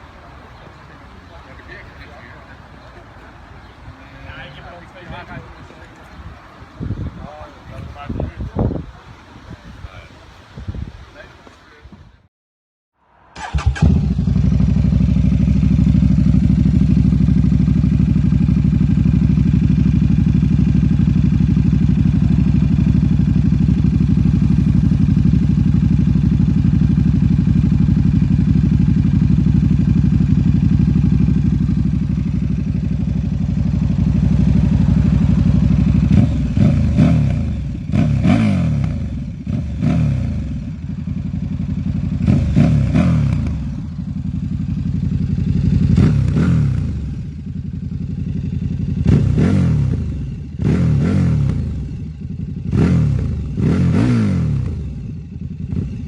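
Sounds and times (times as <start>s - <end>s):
motorcycle engine idling and revving: 0.0s - 10.1s, 13.4s - 56.0s.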